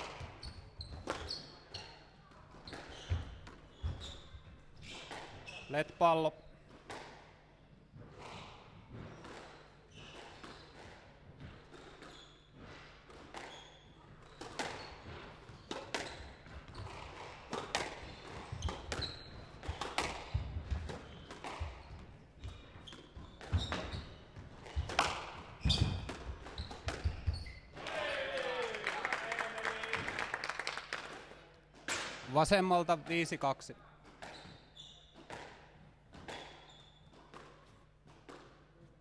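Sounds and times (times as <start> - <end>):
squash ball hitting rackets and walls: 0.0 - 5.7, 6.7 - 27.8, 31.0 - 32.3, 33.8 - 39.0
shoes squeaking on court floor: 0.0 - 5.9, 7.9 - 27.8, 32.8 - 39.0.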